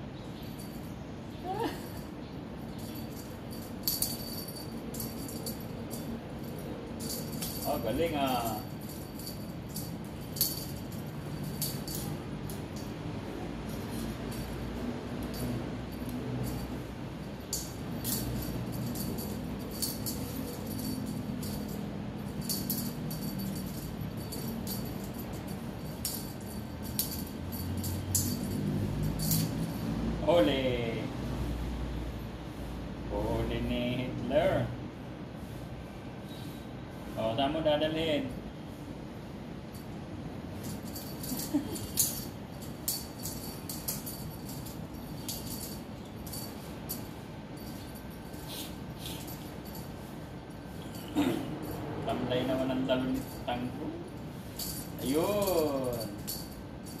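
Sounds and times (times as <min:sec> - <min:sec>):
small jingle bells jingling: 0:00.0 - 0:31.5, 0:39.4 - 0:57.0
low background noise: 0:00.0 - 0:57.0.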